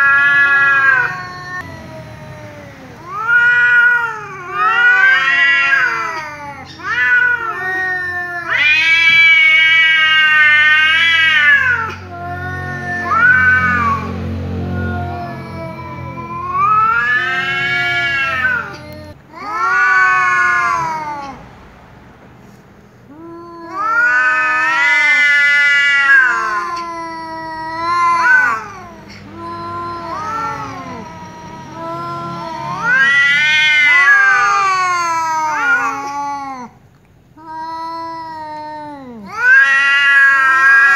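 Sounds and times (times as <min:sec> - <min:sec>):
cats yowling: 0:00.0 - 0:21.5, 0:23.0 - 0:40.9.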